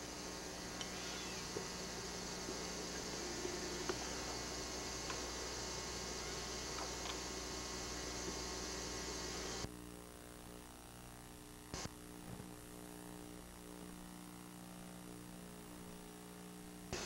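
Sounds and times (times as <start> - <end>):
low electrical hum: 0.0 - 17.0
videotape hiss: 0.0 - 17.0.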